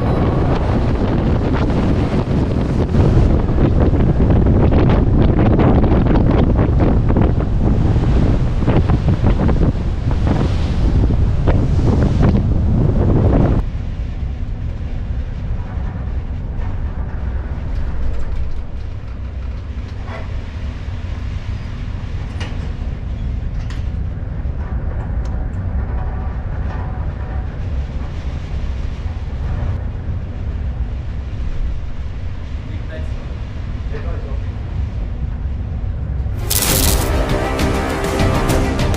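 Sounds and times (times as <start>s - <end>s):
ship engine rumble: 0.0s - 38.9s.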